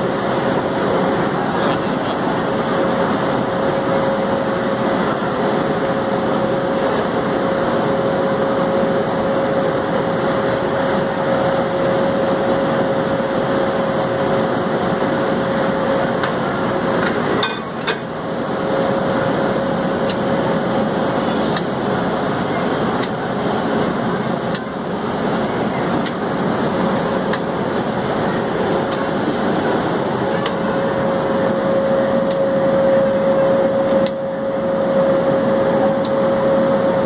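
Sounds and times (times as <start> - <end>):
faint steady whine: 0.0 - 37.0
locomotive machinery hum and hiss: 0.0 - 37.0.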